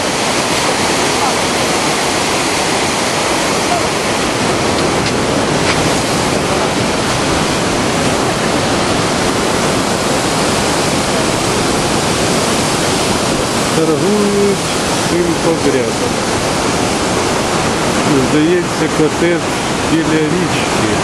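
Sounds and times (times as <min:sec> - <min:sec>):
waterfall and rapids rushing: 0:00.0 - 0:21.0.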